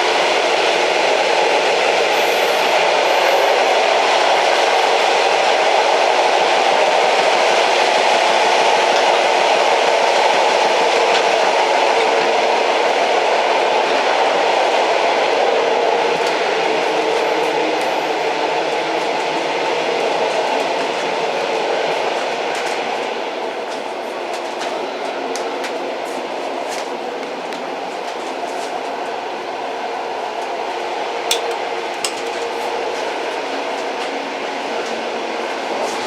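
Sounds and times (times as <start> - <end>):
train running along track: 0.0 - 36.0.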